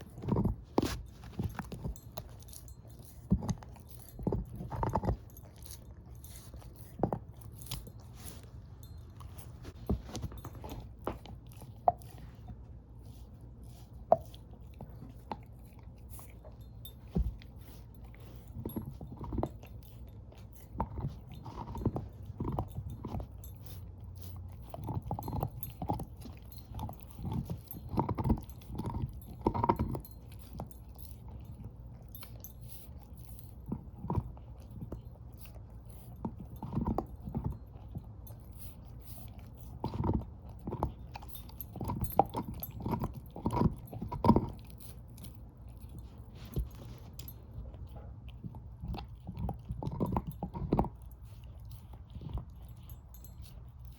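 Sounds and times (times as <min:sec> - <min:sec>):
dog crunching on a bone: 0:00.0 - 0:53.9.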